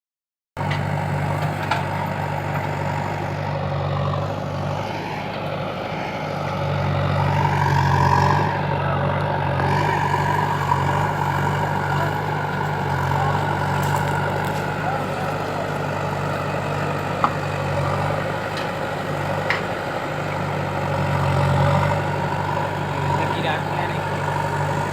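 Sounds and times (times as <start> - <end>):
diesel machinery engine running: 0.6 - 24.9.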